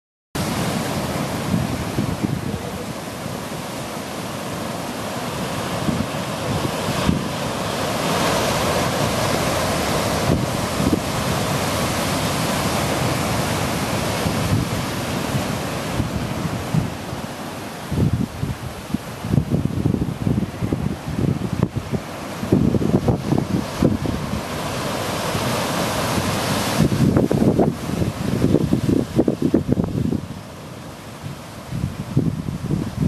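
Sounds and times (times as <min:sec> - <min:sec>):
surf washing against rocky shore: 0:00.4 - 0:33.0
wind buffeting microphone: 0:00.4 - 0:33.0.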